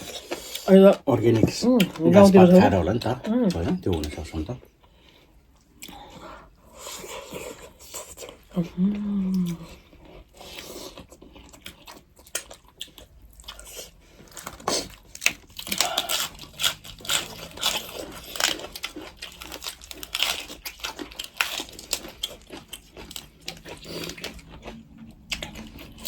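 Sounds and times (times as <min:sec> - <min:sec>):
chewing and smacking: 0:00.0 - 0:08.6, 0:09.3 - 0:26.0.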